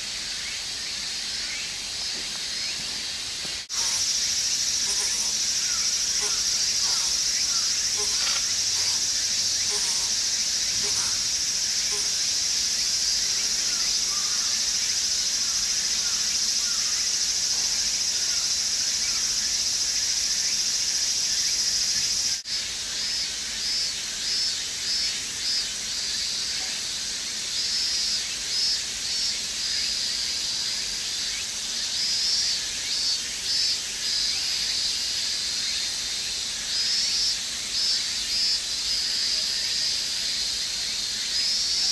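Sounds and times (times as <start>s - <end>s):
insect chorus droning: 0.0s - 41.9s.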